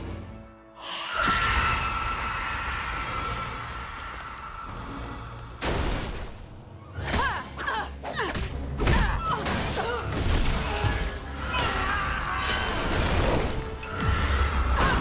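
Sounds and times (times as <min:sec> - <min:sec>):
dramatic action music: 0:00.0 - 0:15.0.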